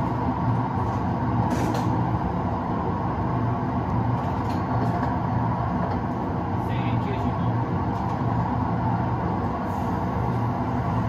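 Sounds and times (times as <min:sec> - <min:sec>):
electric train rumble and hum: 0:00.0 - 0:11.0.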